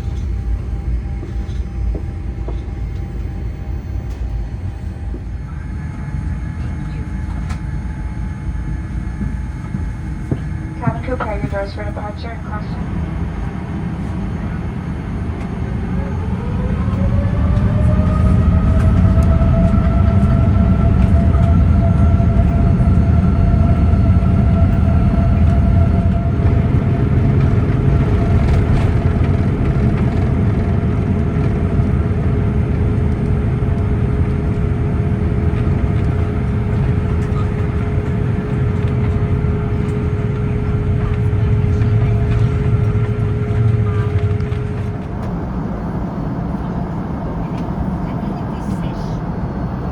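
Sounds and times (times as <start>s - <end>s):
deep engine rumble: 0.0s - 49.9s
jet engine whine: 0.0s - 49.9s.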